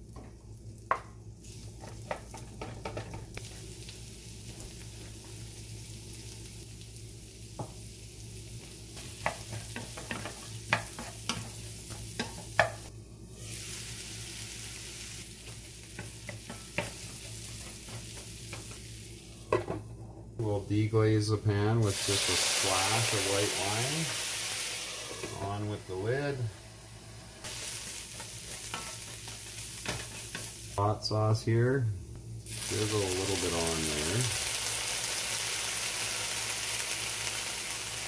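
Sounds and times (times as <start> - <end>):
mushrooms sizzling in a frying pan: 0.0 - 19.8, 20.4 - 31.6, 32.4 - 38.0.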